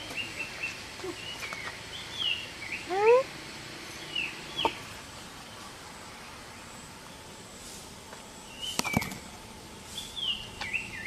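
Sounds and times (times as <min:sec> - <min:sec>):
birds chirping: 0:00.0 - 0:07.5, 0:08.2 - 0:11.0.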